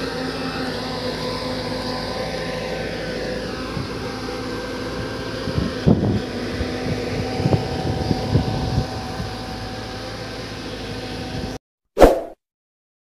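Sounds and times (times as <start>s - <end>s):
diesel engine running: 0.0s - 11.6s.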